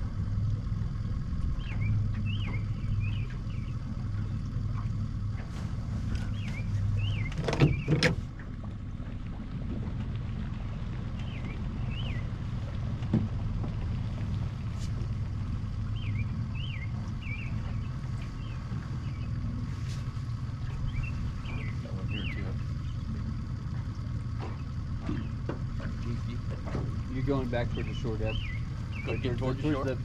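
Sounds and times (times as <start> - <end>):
outboard motor humming: 0.0 - 30.0.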